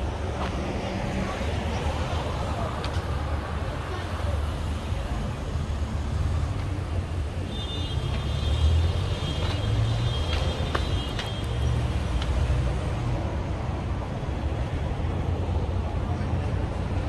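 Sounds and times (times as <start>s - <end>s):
city background rumble: 0.0s - 17.0s.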